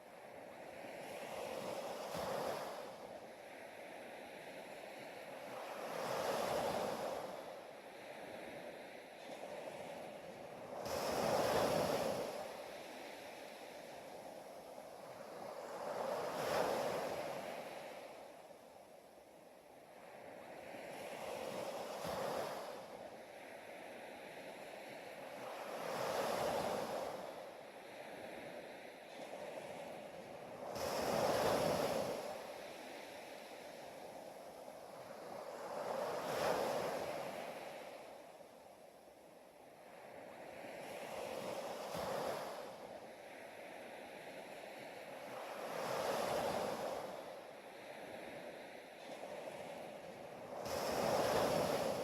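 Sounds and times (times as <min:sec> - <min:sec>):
ocean waves washing in: 0:00.0 - 0:52.0.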